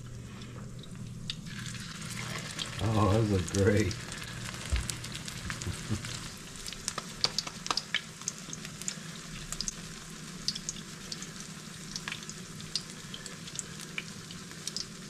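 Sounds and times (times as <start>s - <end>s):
oil popping and crackling: 0.8s - 15.0s
pancakes sizzling in oil: 1.2s - 15.0s.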